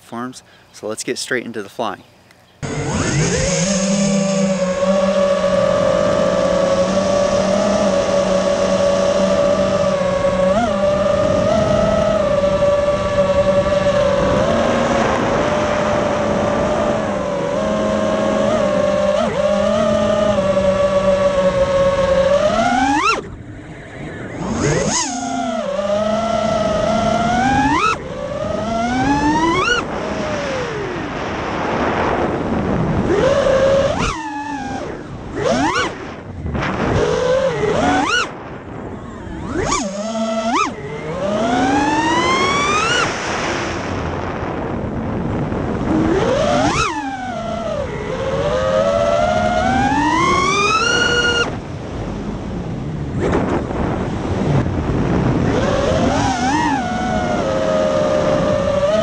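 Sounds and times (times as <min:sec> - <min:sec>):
drone motors whining: 0:02.3 - 0:59.0.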